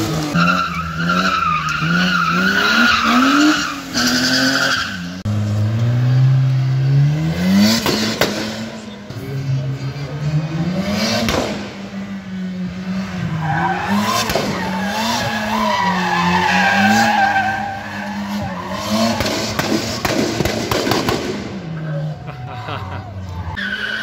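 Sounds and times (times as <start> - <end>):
car engine revving high: 0.0 - 21.8.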